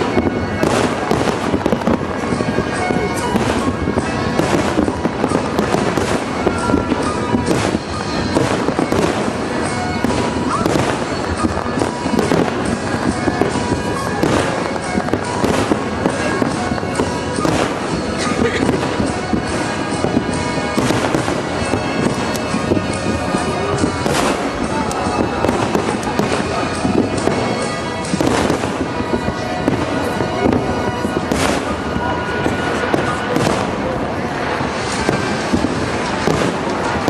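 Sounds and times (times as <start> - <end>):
fireworks bursting and crackling: 0.0 - 37.0.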